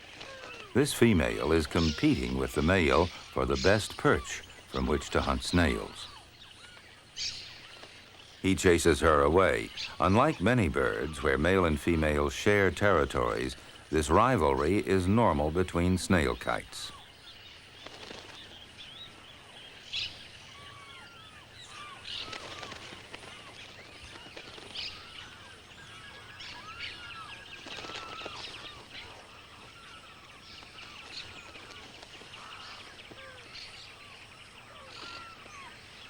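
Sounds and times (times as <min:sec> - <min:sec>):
birds calling and chirping: 0:00.0 - 0:36.0
steady background hiss: 0:00.0 - 0:36.0.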